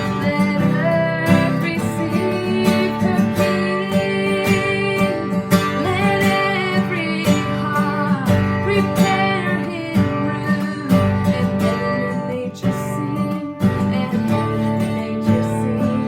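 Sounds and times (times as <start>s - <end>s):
worship music with acoustic guitar: 0.0s - 16.0s.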